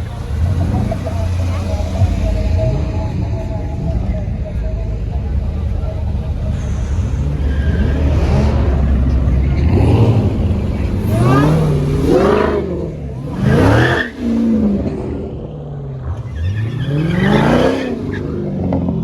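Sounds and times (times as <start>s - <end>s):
car engine revving hard: 0.0s - 3.4s, 6.5s - 19.0s.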